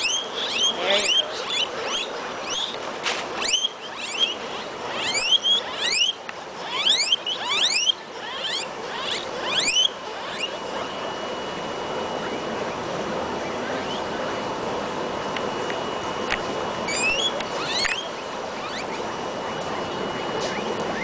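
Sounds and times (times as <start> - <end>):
guinea pigs squeaking: 0.0 - 21.0.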